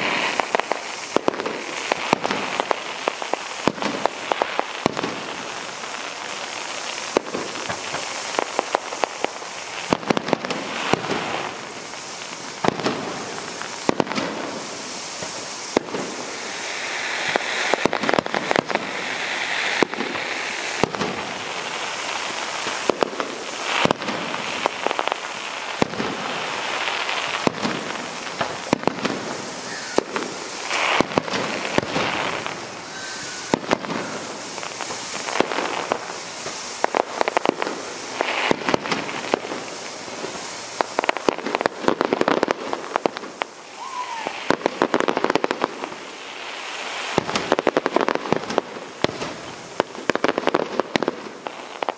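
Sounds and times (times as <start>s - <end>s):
fireworks bangs: 0.0s - 51.9s.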